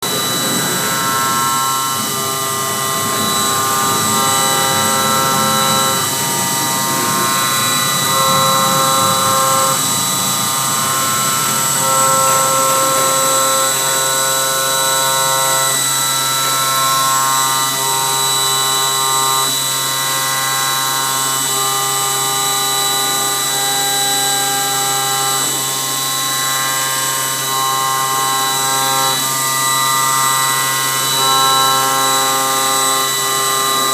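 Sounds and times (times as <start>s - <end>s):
cnc machine motors whining: 0.0s - 33.9s
constant high whine and hum: 0.0s - 33.9s.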